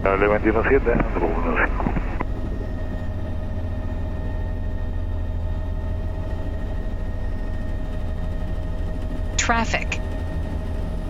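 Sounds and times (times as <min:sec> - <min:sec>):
helicopter rotor and engine drone: 0:00.0 - 0:11.0
turbine whine: 0:00.0 - 0:11.0.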